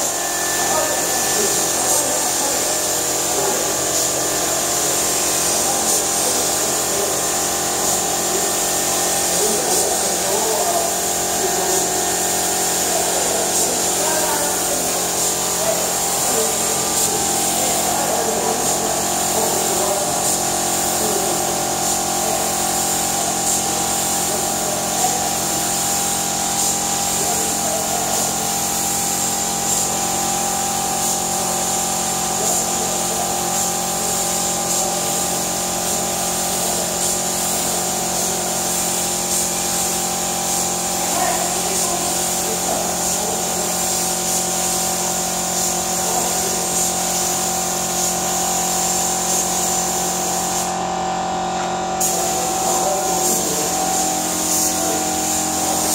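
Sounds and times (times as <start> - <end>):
paint spray gun hissing: 0.0 - 55.9.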